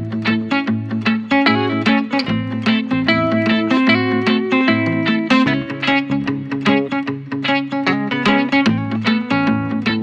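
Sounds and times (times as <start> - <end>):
plucked guitar notes: 0.0 - 10.0.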